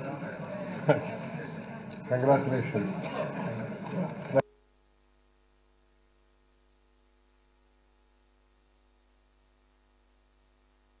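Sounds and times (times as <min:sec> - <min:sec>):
faint electrical hum with hiss: 0:00.0 - 0:11.0.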